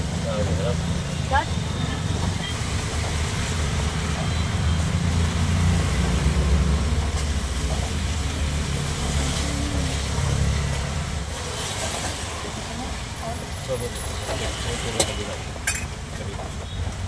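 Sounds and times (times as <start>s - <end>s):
engines and road traffic rumble: 0.0s - 17.0s.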